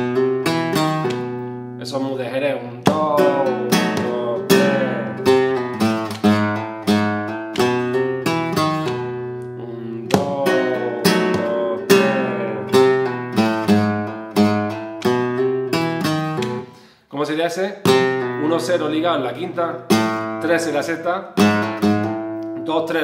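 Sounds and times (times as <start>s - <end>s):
flamenco guitar plucked notes: 0.0s - 16.9s, 17.8s - 23.0s.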